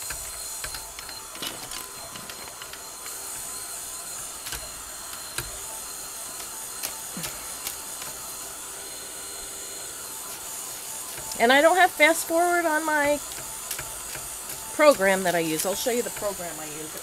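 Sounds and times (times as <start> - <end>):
heat tool blowing: 0.0 - 17.0.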